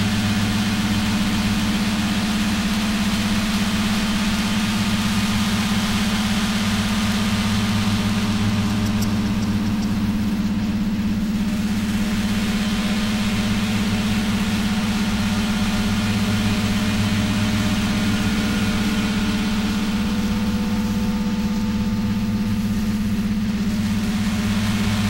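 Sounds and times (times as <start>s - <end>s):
low synth drone with flutter: 0.0s - 25.0s.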